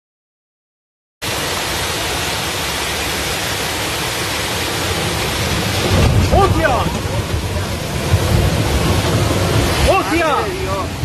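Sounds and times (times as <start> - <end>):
floodwater rushing over wall: 1.2 - 11.0.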